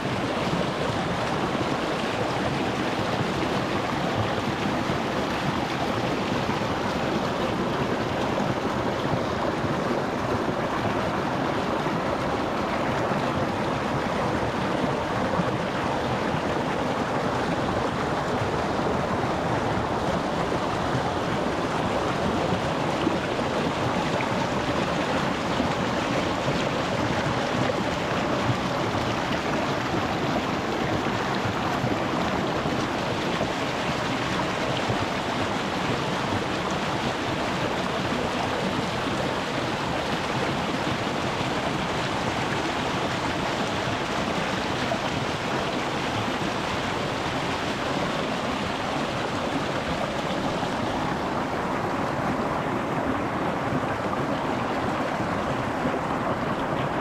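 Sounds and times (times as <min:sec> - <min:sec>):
stream splashing over stones: 0:00.0 - 0:57.0.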